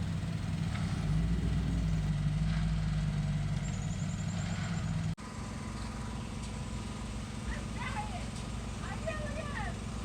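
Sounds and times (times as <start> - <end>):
vehicle engine running at low speed: 0.0 - 10.0.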